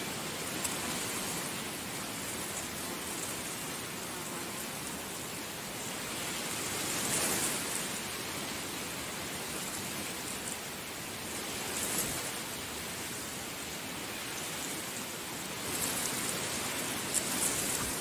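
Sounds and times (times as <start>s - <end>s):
heavy rain falling: 0.0s - 4.0s, 4.8s - 18.0s.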